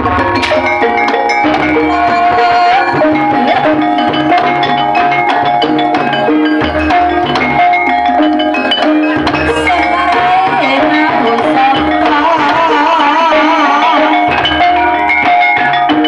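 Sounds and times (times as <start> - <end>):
struck metal keyed instruments: 0.0 - 16.0.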